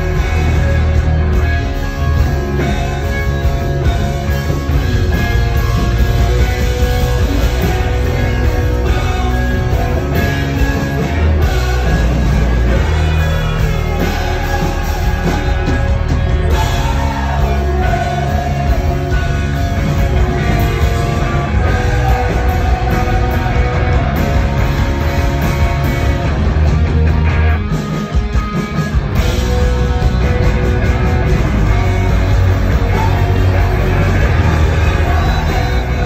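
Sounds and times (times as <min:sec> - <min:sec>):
loud rock band playing: 0:00.0 - 0:36.0.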